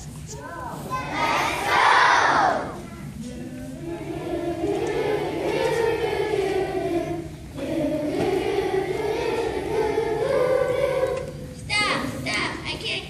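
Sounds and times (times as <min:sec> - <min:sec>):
children's choir singing: 0:00.8 - 0:12.2.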